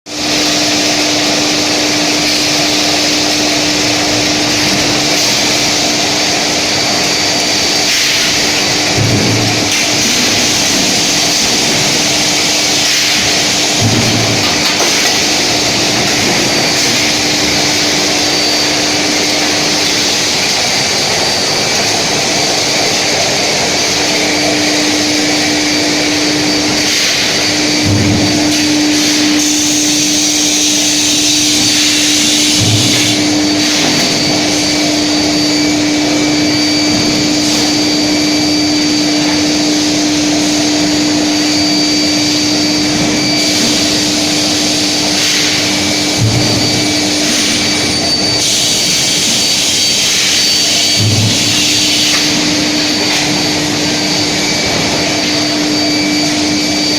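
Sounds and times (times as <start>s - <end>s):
furnace machine noise: 0.1s - 56.9s
high whine: 0.1s - 56.9s.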